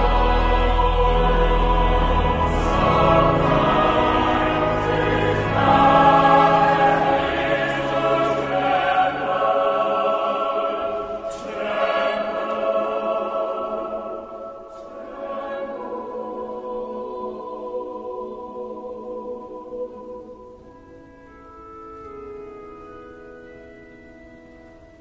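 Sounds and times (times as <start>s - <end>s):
choir singing sustained chords: 0.0s - 25.0s.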